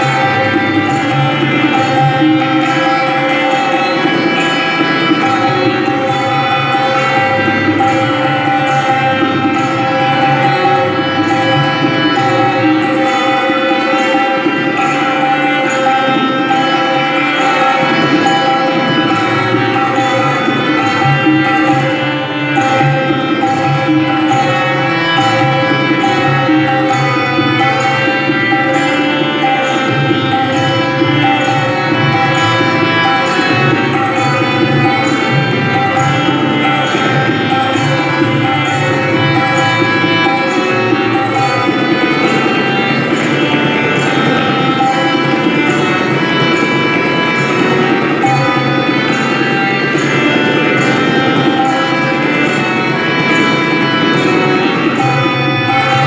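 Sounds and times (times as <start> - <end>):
sustained melodic accompaniment: 0.0 - 56.0
tabla playing: 0.0 - 56.0.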